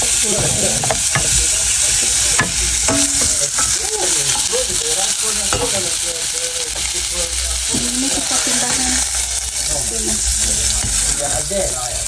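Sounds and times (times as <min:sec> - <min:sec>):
prawns sizzling in oil: 0:00.0 - 0:12.0.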